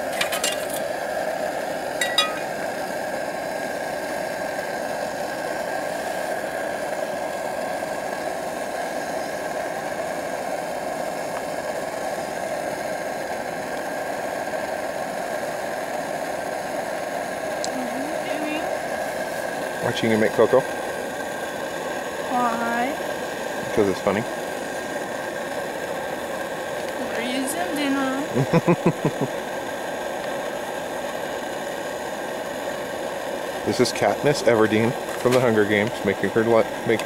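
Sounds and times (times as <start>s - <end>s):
stove burner running: 0.0s - 37.0s.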